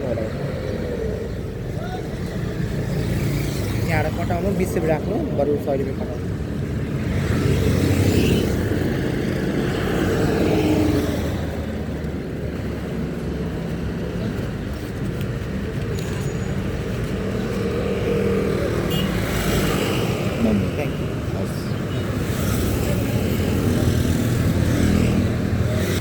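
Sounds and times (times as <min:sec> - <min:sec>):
traffic engines humming: 0:00.0 - 0:26.0.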